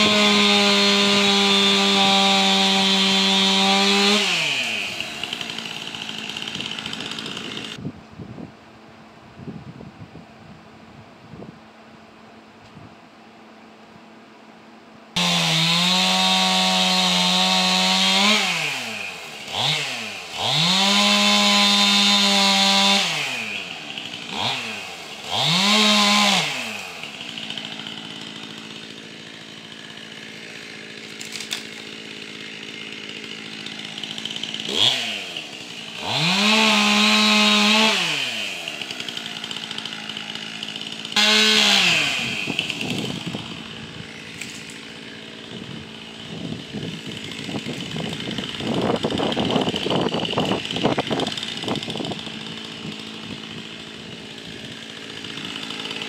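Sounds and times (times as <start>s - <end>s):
chainsaw revving and idling: 0.0s - 7.8s, 15.1s - 56.0s.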